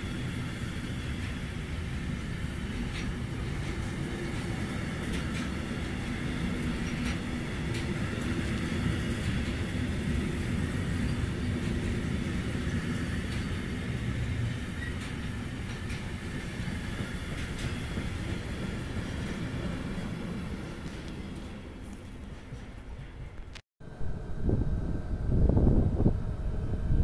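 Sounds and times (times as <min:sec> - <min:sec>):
train wheels rumbling on rails: 0:00.0 - 0:23.6
sharp clicks of train wheels: 0:00.1 - 0:23.6.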